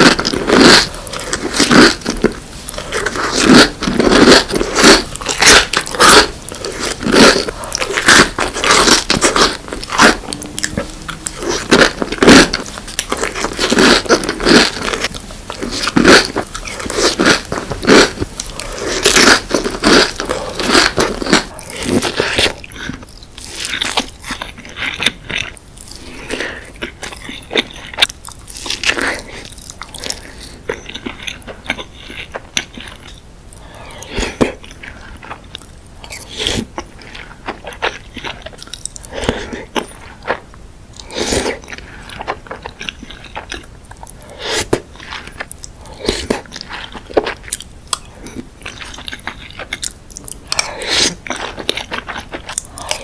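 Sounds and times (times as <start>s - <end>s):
crunchy bites and chewing: 0.0s - 53.0s.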